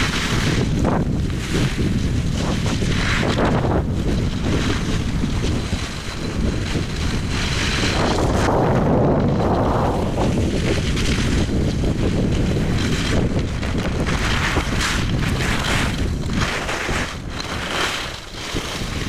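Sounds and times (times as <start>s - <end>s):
skis scraping on packed snow: 0.0s - 19.0s
wind rushing over microphone: 0.0s - 19.0s.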